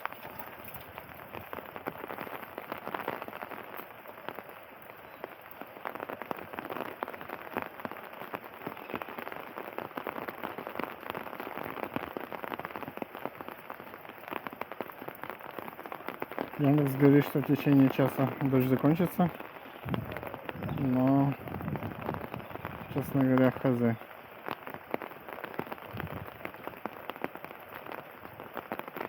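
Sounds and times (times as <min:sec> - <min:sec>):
steady rain patter: 0:00.0 - 0:29.0.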